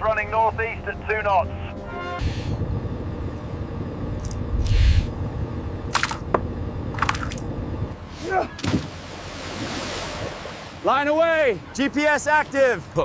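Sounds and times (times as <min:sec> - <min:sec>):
boat engine and sea rumble: 0:00.0 - 0:13.0.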